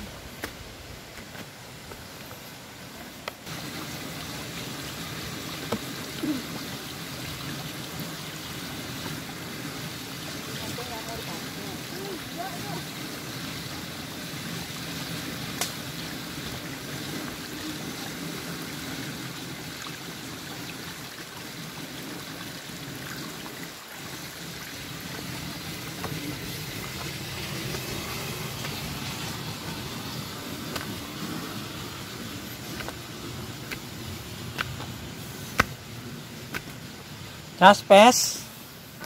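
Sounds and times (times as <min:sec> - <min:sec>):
stream water flowing: 0:00.0 - 0:39.0.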